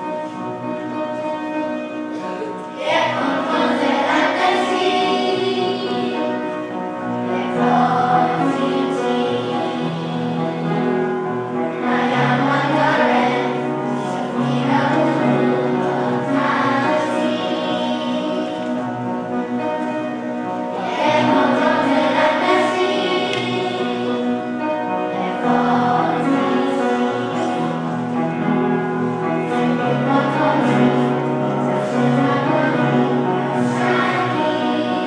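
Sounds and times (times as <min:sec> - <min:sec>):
children's choir singing: 0:00.0 - 0:35.0
instrumental accompaniment: 0:00.0 - 0:35.0.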